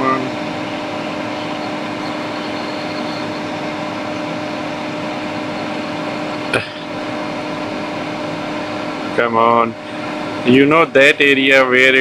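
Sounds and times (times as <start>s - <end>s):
hot air rework station blowing: 0.0s - 12.0s.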